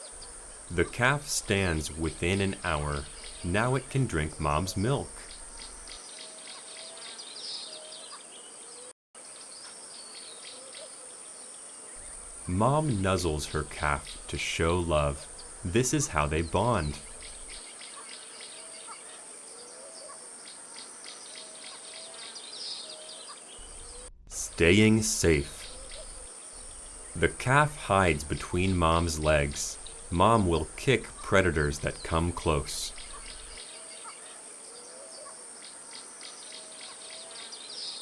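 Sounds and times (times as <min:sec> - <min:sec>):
bird chirps: 0:00.0 - 0:11.0, 0:12.0 - 0:38.0
high insect buzz: 0:00.0 - 0:38.0.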